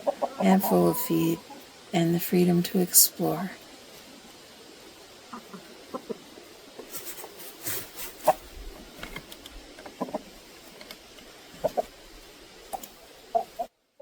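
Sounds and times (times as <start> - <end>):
chickens clucking: 0.0 - 13.8.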